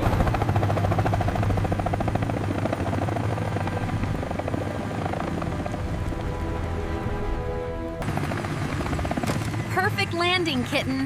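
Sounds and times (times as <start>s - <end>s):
helicopter rotor chop: 0.0s - 6.2s, 8.0s - 11.0s.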